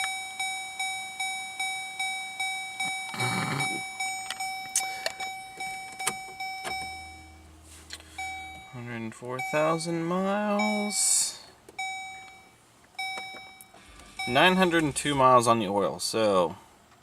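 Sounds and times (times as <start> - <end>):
car warning chime dinging: 0.0 - 16.5.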